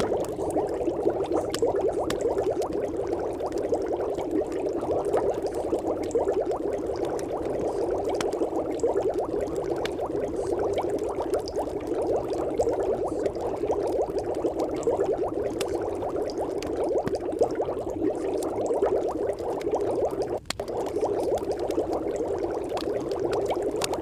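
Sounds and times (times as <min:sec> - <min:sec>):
liquid bubbling crackle: 0:00.0 - 0:24.0.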